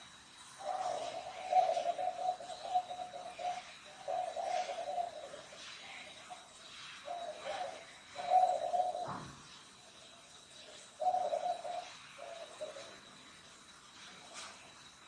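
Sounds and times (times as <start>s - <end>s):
dove cooing: 0.0s - 9.4s, 10.5s - 13.3s.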